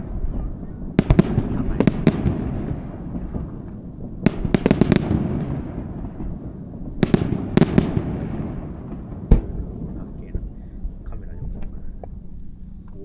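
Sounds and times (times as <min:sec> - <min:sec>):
fireworks bangs: 0:00.0 - 0:11.8
rolling echo rumble: 0:00.0 - 0:13.0.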